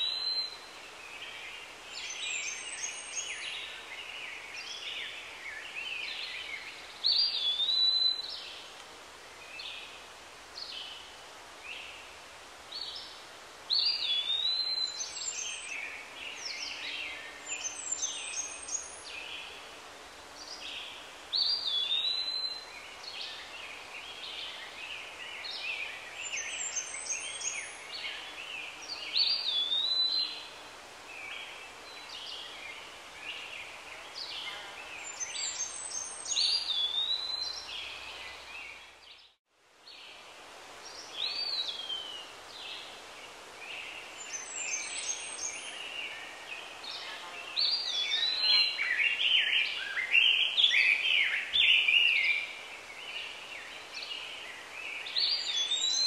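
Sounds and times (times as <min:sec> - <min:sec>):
songbird singing: 0:00.0 - 0:56.0
steady outdoor hiss: 0:00.0 - 0:56.0.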